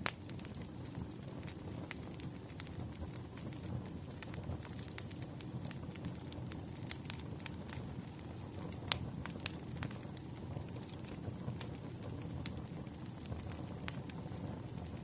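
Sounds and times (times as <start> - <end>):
logs crackling and popping: 0.0 - 15.0
low rumble of flame: 0.0 - 15.0.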